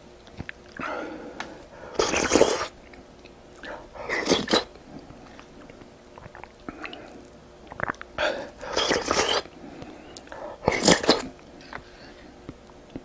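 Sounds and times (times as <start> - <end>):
person eating: 0.2 - 13.0.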